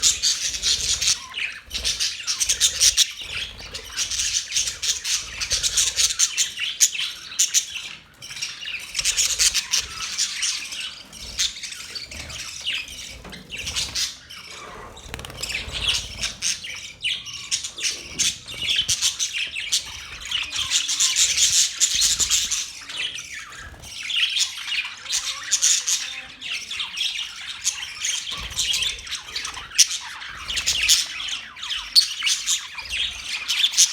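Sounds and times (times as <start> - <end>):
budgerigars chattering and chirping: 0.0 - 33.9.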